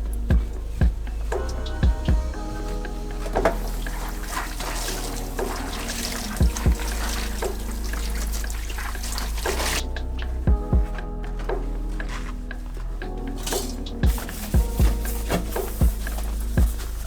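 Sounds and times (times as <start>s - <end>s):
background music with beat: 0.0s - 17.0s
running water splashing: 0.0s - 17.0s.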